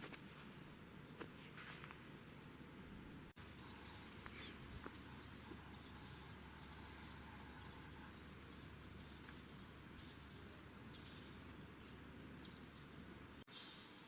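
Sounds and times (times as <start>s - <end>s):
insects trilling: 0.1s - 13.8s.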